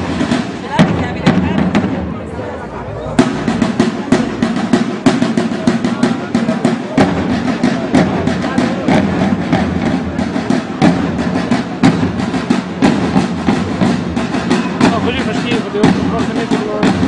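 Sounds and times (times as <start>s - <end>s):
field drums playing: 0.0s - 17.0s.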